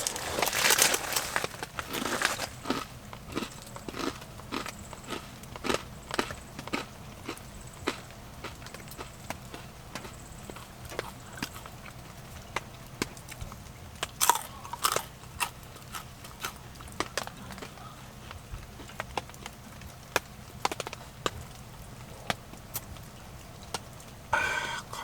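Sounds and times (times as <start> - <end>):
rice cracker crunching: 0.0 - 21.6.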